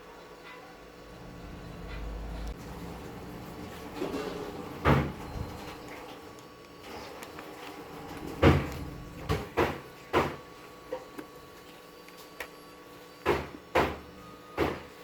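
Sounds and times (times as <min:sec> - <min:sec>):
faint steady hum: 0:00.0 - 0:14.8.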